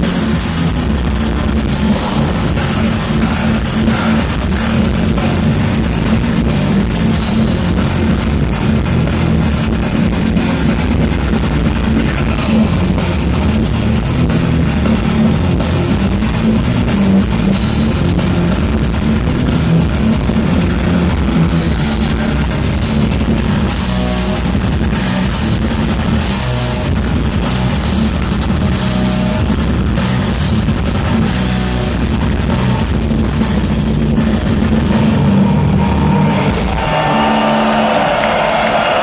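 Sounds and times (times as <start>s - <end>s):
distorted electric guitars: 0.0s - 39.0s
drum kit: 0.0s - 39.0s
live heavy metal band: 0.0s - 39.0s.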